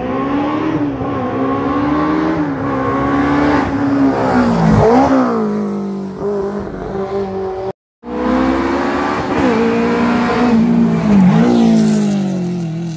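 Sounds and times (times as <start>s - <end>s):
racing car engines accelerating: 0.0s - 12.9s.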